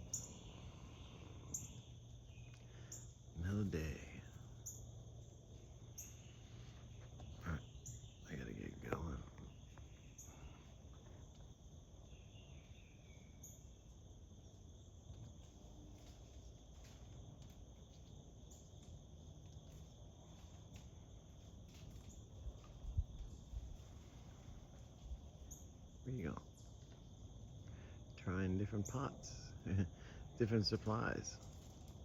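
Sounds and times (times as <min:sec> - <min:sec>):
insect chorus chirring: 0:00.0 - 0:32.0.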